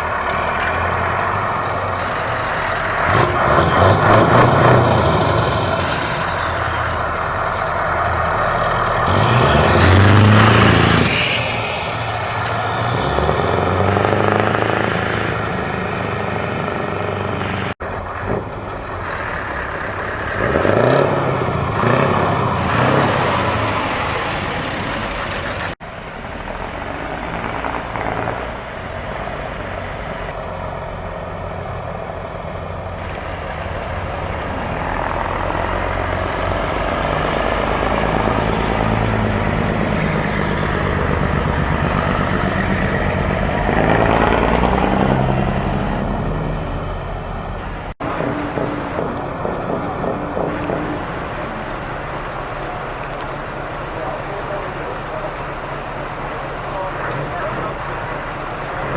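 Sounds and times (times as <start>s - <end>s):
straight-piped truck engines revving: 0.0s - 58.9s.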